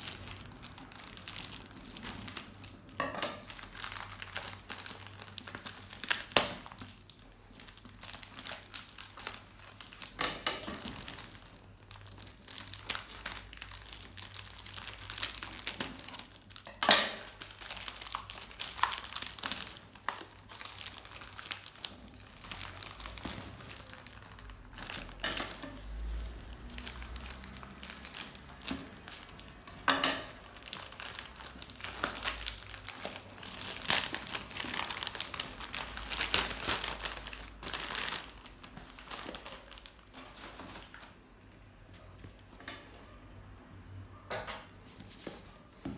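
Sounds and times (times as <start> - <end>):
plastic ripping: 0.0 - 41.3
plastic bag crinkling: 0.0 - 42.1.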